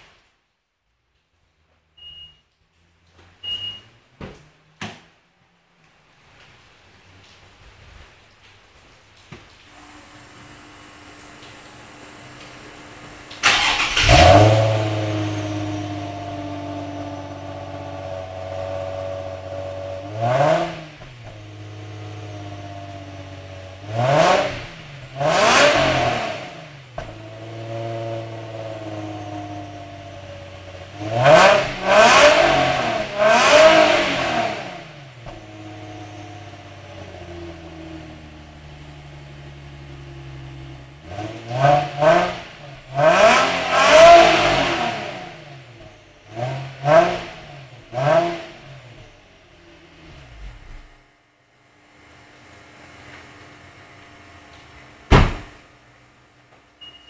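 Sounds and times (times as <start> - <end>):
car engine idling and revving: 9.8 - 56.6.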